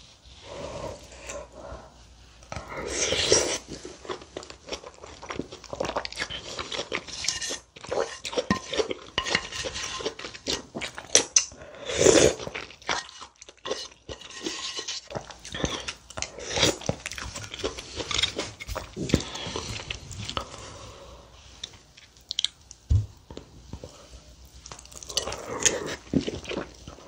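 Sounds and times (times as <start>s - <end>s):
person chewing with wet mouth sounds: 0.4s - 27.0s.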